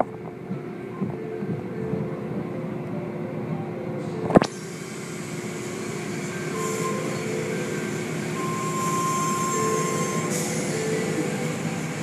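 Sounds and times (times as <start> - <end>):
thin machine whine: 0.0 - 12.0.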